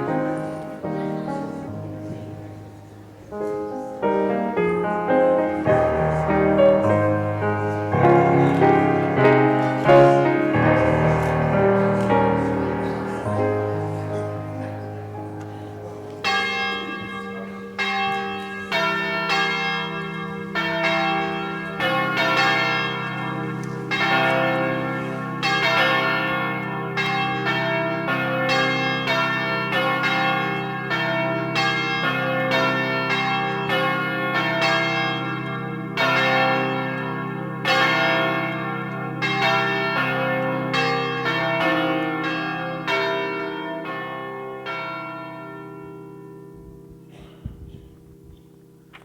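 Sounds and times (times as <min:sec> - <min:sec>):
keyboard chords: 0:00.0 - 0:45.6.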